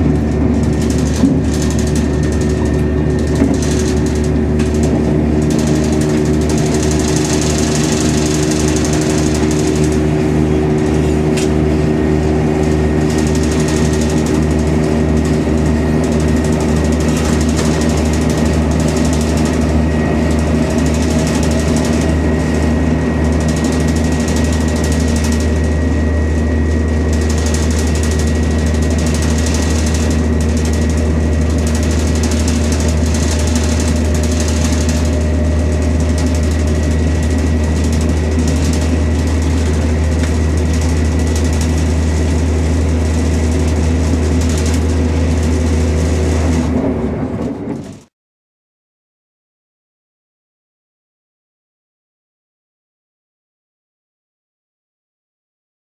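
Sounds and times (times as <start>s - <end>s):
rushing wheel and air noise: 0.0s - 48.1s
train engine drone: 0.0s - 48.1s.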